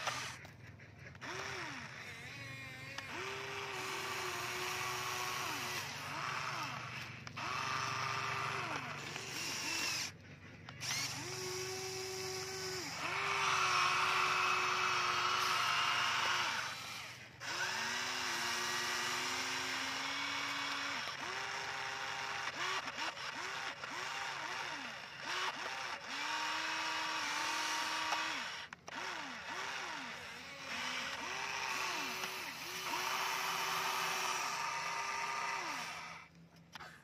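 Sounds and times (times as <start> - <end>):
gear noise: 0.0 - 37.0
toy electric motors whining: 0.0 - 37.0.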